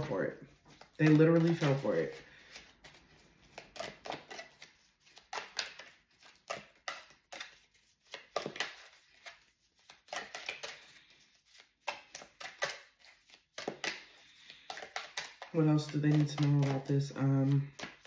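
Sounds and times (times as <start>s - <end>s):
cards being shuffled: 0.0s - 18.0s.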